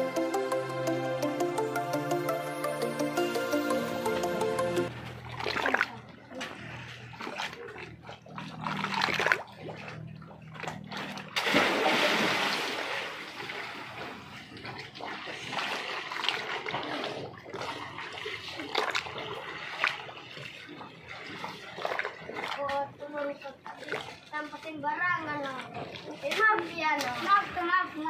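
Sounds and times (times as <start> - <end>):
waves splashing against concrete wall: 5.0 - 28.0.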